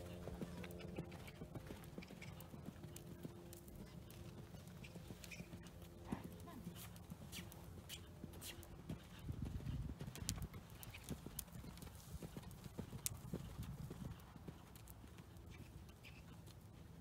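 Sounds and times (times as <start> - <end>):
pony hoofbeats on sand: 0.0 - 17.0.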